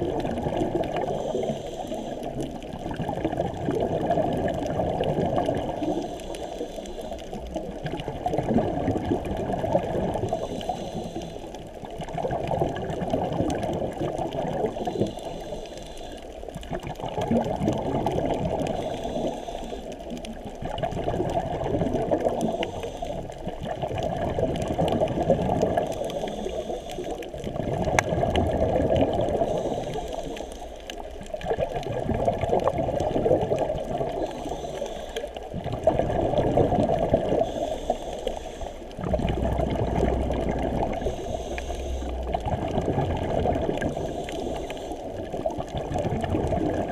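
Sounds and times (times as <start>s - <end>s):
muffled underwater rushing: 0.0s - 46.9s.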